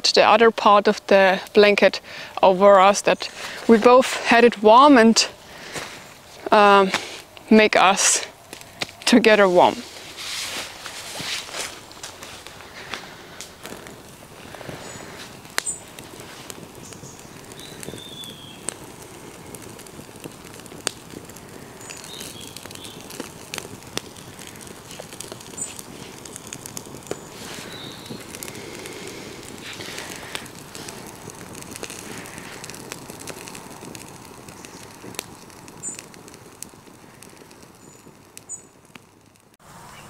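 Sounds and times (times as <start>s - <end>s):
campfire crackling and popping: 0.0s - 39.8s.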